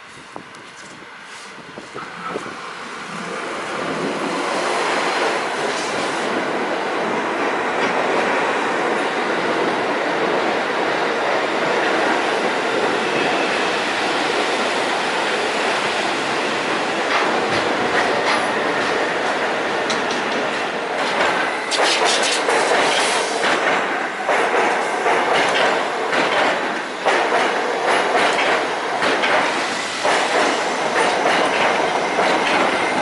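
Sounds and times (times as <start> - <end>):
subway train running past: 0.0 - 33.0.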